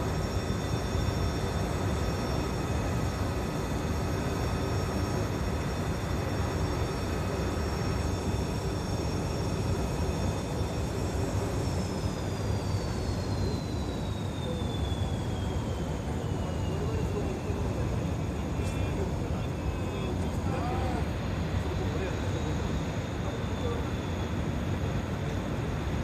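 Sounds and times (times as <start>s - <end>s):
engine low rumble: 0.0s - 26.0s
high-pitched engine whines: 0.0s - 26.0s.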